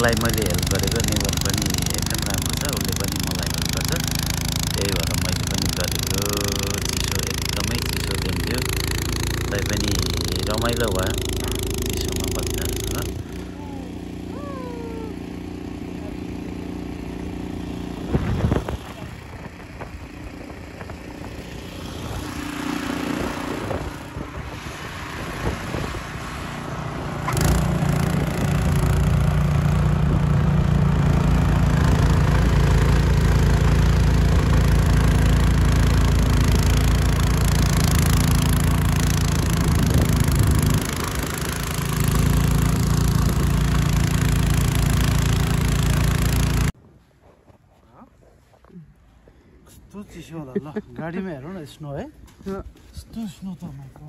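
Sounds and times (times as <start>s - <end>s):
snowblower engine running: 0.0s - 46.8s.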